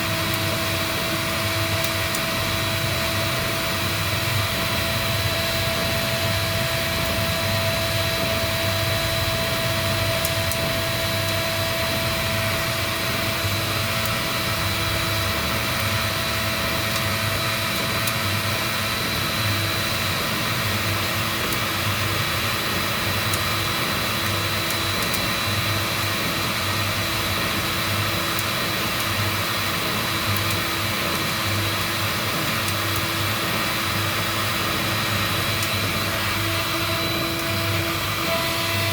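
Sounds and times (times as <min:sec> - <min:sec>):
heat gun blowing air: 0:00.0 - 0:38.9.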